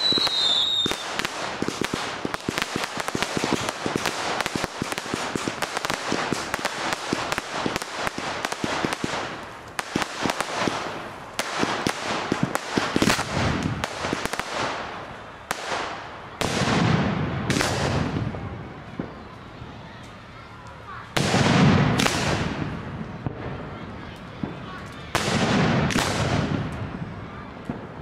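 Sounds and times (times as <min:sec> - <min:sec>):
fireworks deep booms: 0:00.0 - 0:19.7, 0:21.1 - 0:28.0
fireworks crackling pops: 0:00.0 - 0:28.0.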